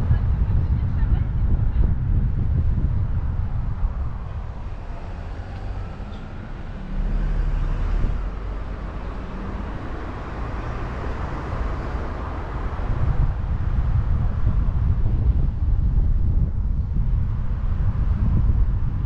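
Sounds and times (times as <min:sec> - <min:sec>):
road and traffic rumble: 0:00.0 - 0:19.0.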